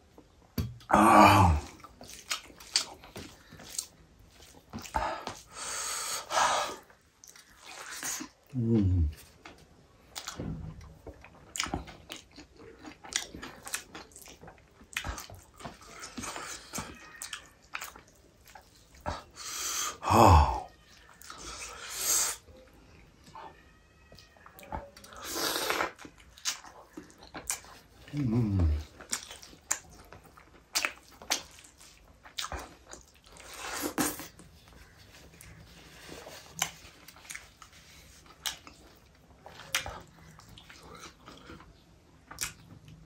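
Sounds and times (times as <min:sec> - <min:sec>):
wet chewing and lip-smacking: 0:01.6 - 0:05.5, 0:06.7 - 0:08.5, 0:09.1 - 0:19.6, 0:24.1 - 0:43.0.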